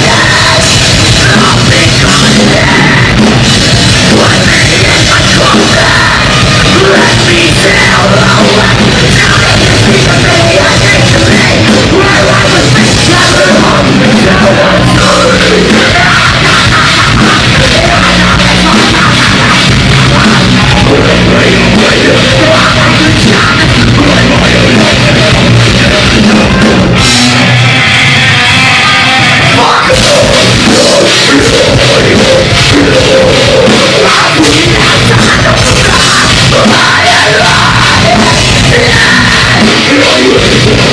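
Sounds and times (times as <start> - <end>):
bass: 0.0 - 40.9
distorted guitars: 0.0 - 40.9
drums: 0.0 - 40.9
harsh vocals: 0.0 - 40.9.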